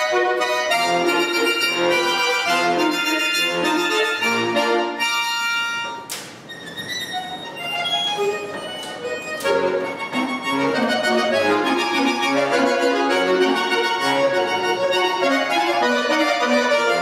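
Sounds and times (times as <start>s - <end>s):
button accordion playing: 0.0s - 17.0s.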